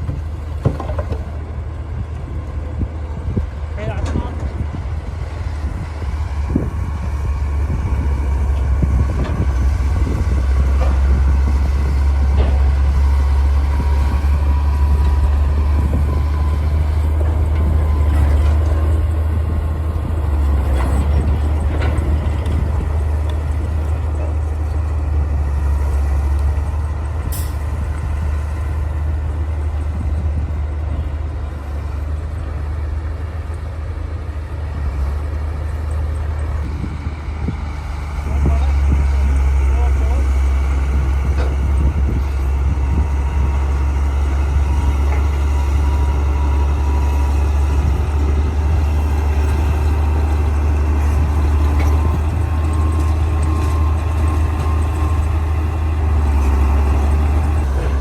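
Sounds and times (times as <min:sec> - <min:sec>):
bulldozer diesel engine rumbling: 0:00.0 - 0:58.0.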